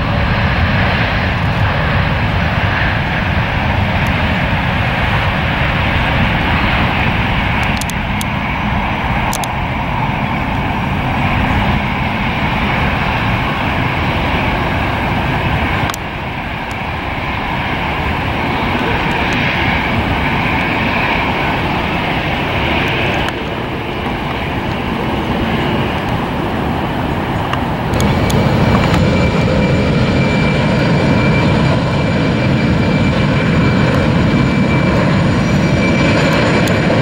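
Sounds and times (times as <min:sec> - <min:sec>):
jet engines running loud: 0:00.0 - 0:37.0
wind buffeting microphone: 0:00.0 - 0:37.0.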